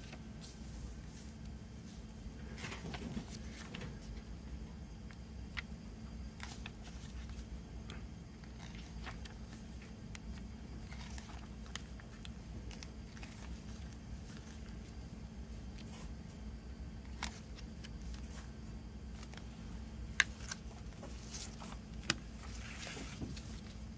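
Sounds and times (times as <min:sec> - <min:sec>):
paper pages rustling: 0:00.0 - 0:04.3, 0:06.3 - 0:15.0, 0:17.0 - 0:19.6, 0:20.2 - 0:23.9.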